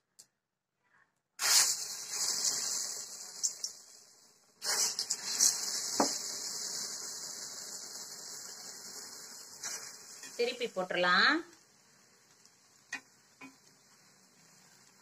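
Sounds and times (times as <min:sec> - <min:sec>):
batter sizzling in hot oil: 0:01.4 - 0:15.0.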